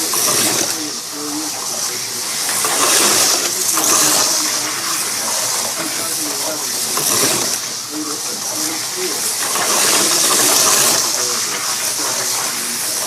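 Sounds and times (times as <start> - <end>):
slot cars whirring: 0.0 - 13.0.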